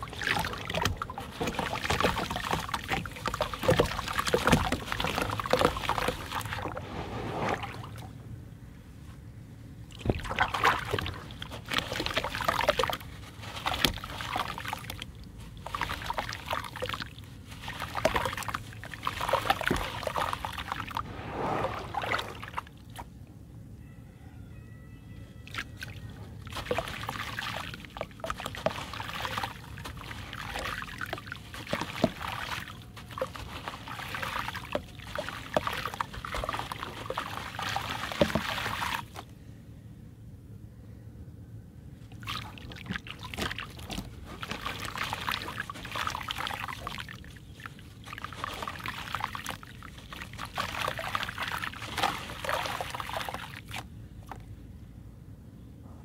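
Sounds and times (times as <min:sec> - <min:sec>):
wet grit trickling into water: 0:00.0 - 0:08.1, 0:09.9 - 0:23.1, 0:25.5 - 0:39.3, 0:42.1 - 0:54.5
water sloshing and splashing: 0:00.0 - 0:08.3, 0:09.8 - 0:23.2, 0:25.4 - 0:39.3, 0:42.0 - 0:54.6.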